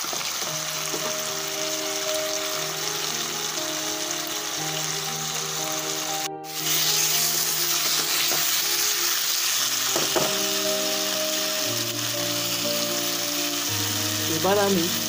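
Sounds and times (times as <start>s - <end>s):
food sizzling in hot oil: 0.0s - 15.0s
soft background music: 0.1s - 15.0s.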